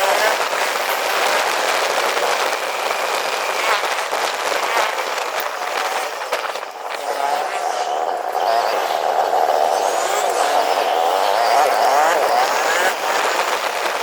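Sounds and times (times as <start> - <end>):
motor vehicle noise: 0.0 - 14.0.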